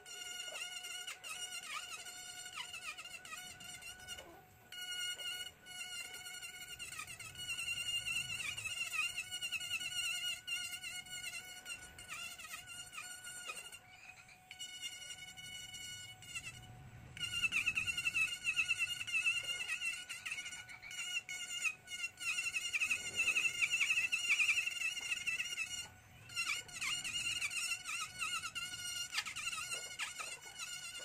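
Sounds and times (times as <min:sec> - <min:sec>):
rotary tool whining cutting wood: 0:00.0 - 0:31.0.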